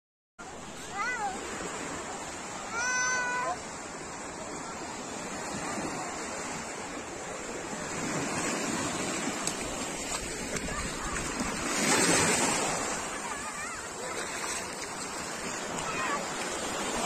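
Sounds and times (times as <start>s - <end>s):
waves washing onto a beach: 0.4s - 17.0s.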